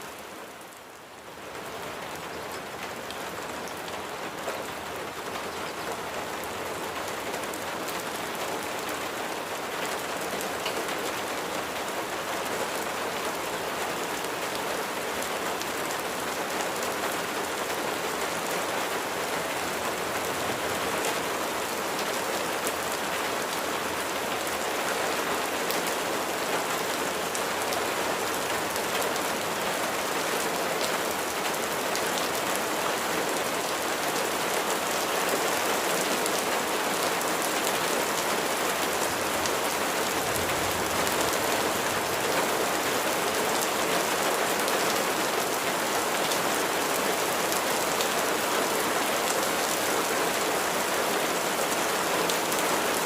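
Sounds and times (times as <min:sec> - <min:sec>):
steady rain pattering: 0:00.0 - 0:53.0.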